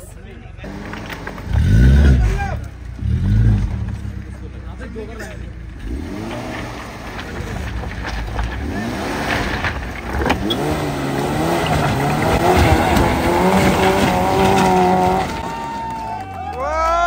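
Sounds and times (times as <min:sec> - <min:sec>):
wheels scrabbling in loose stones: 0:00.6 - 0:02.8, 0:03.6 - 0:16.4
engine revving: 0:00.6 - 0:15.6.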